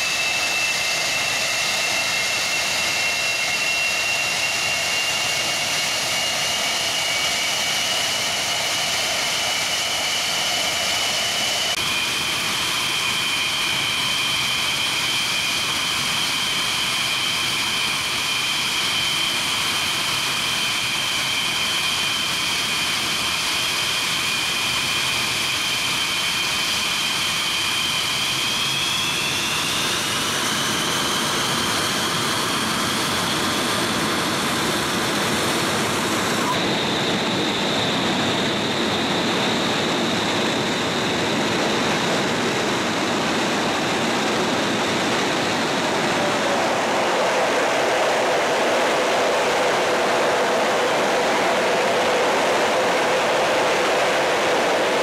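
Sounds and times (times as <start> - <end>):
jet engine roar: 0.0 - 55.0
jet engine whine: 0.0 - 55.0.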